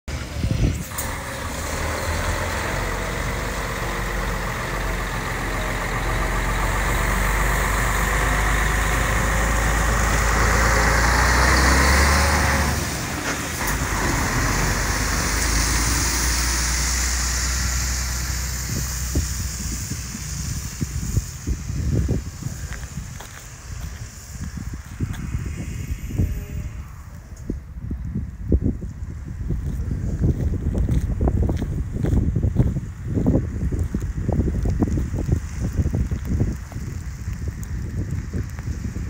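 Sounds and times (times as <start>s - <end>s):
diesel truck engine passing: 0.1s - 39.0s.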